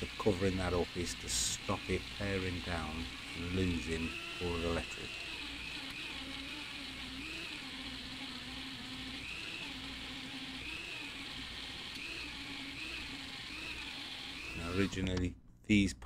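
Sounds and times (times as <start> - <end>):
rotary tool motor whine: 0.0 - 15.2.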